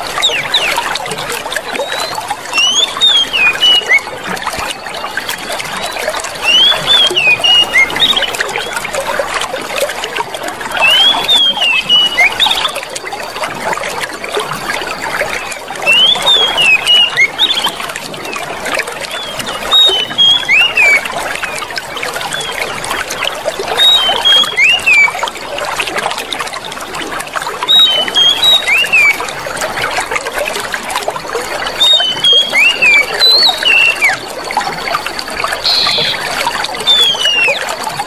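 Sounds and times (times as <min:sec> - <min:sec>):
water trickling: 0:00.0 - 0:38.0.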